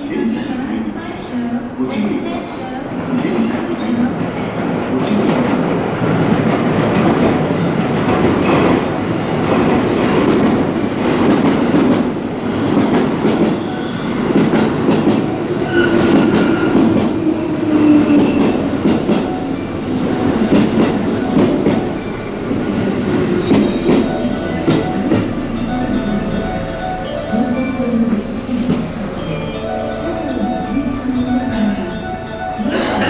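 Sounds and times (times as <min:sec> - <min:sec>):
train rumble: 0:00.0 - 0:33.0
train wheels clacking on rails: 0:00.0 - 0:33.0.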